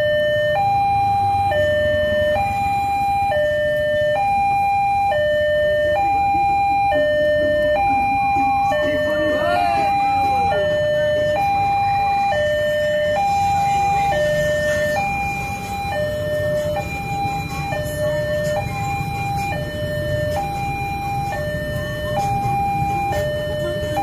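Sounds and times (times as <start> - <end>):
level crossing two-tone alarm: 0.0 - 24.0
motorbike traffic rumble: 0.0 - 24.0.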